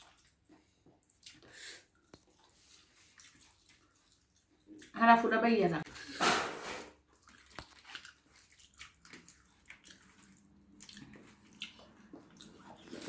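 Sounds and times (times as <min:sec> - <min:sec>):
fingers squishing rice and curry: 0:00.0 - 0:04.9, 0:07.1 - 0:13.0.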